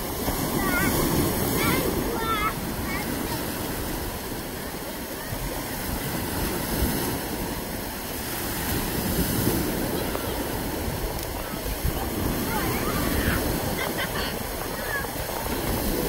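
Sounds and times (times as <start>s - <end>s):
surf washing over sand: 0.0s - 16.0s.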